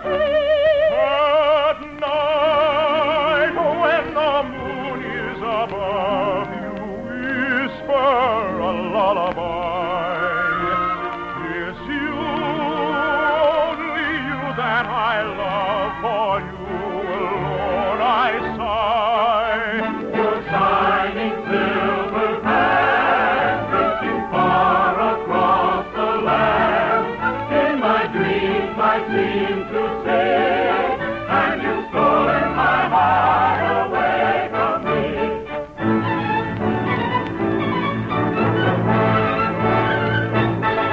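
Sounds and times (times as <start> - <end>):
operetta singing with vibrato: 0.0 - 40.9
orchestra playing: 0.0 - 40.9.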